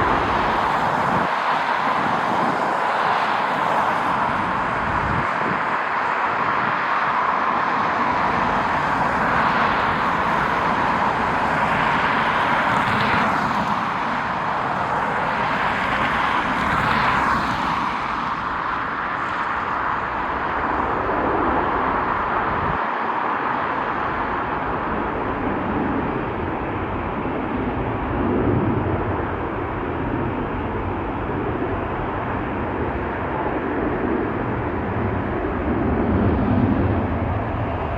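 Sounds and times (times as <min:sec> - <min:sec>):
jet engines rushing: 0:00.0 - 0:37.9.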